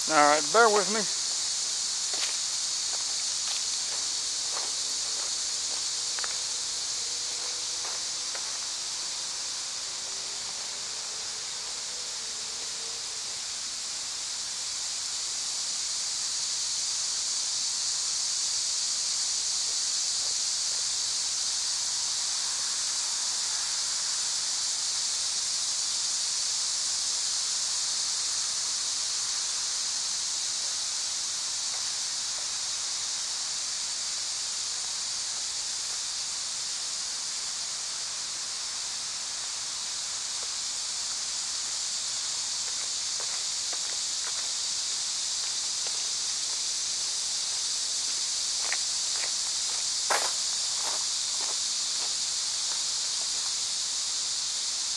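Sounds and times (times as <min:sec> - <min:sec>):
high-pitched insect chorus: 0:00.0 - 0:54.9.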